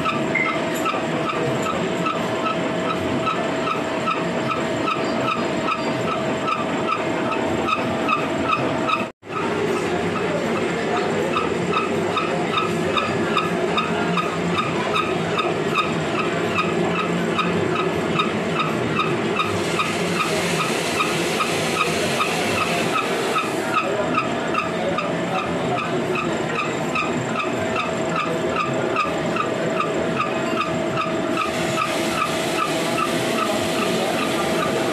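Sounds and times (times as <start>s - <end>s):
machine mechanical noise: 0.0s - 34.9s.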